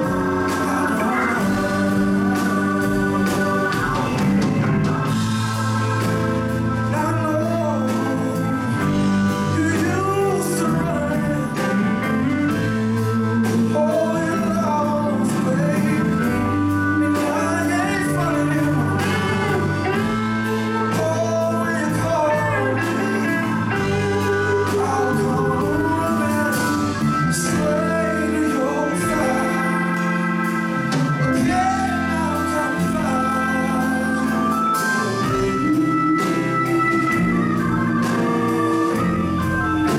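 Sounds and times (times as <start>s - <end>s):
drums: 0.0s - 39.9s
electric guitar: 0.0s - 39.9s
hammond organ: 0.0s - 39.9s
man singing: 0.0s - 39.9s.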